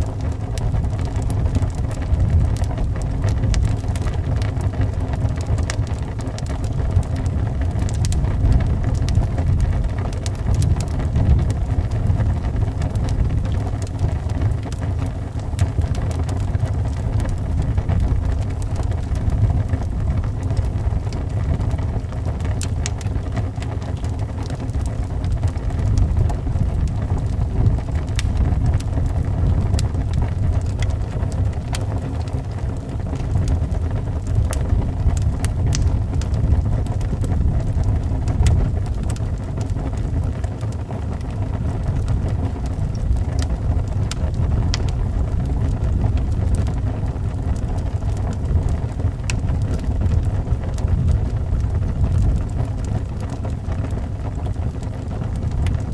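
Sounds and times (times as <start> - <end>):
howling wind: 0.0 - 55.9
wood fire crackling: 0.0 - 55.9.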